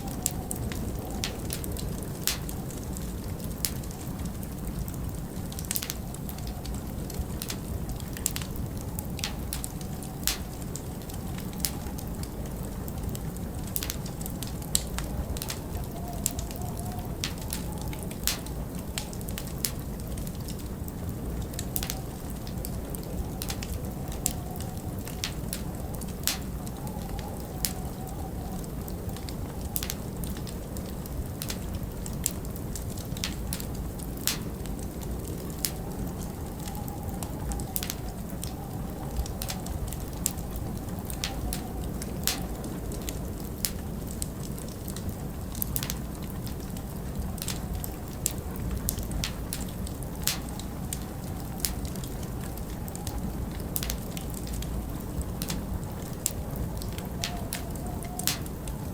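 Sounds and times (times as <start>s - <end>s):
low rumble of wind: 0.0s - 58.9s
wood fire crackling and popping: 0.0s - 58.9s.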